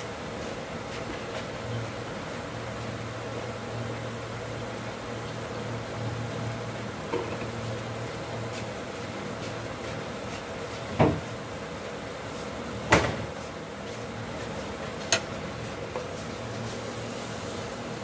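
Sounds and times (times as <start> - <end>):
induction cooktop hum: 0.0 - 18.0.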